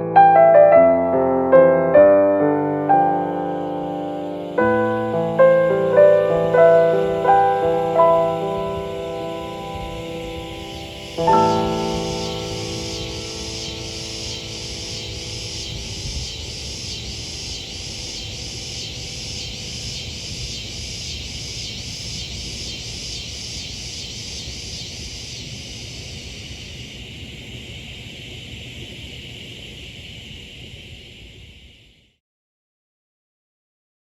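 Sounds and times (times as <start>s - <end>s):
cicadas pulsing chorus: 0.1s - 32.2s
cicadas steady buzz: 0.2s - 32.2s.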